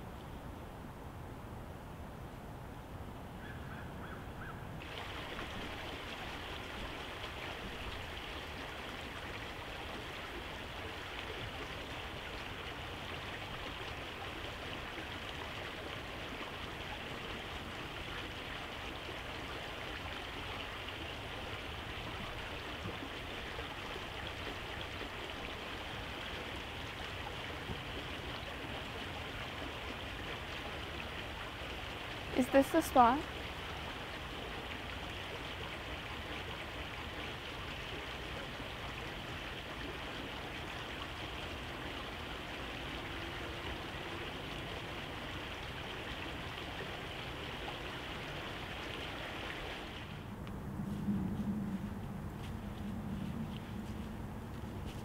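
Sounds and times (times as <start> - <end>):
stream water rushing: 4.8 - 55.0.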